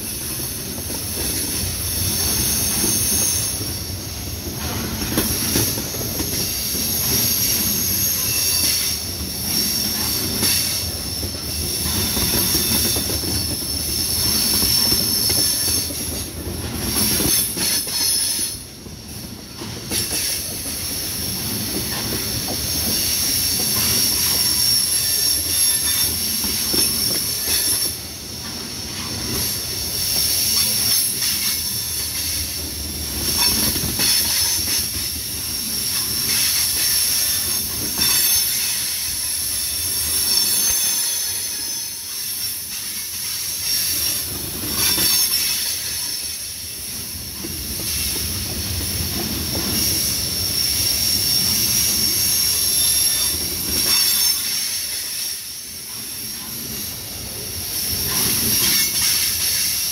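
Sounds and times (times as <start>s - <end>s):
steel wheels squealing: 0.0s - 59.9s
wheels rumbling on rail: 0.0s - 59.9s.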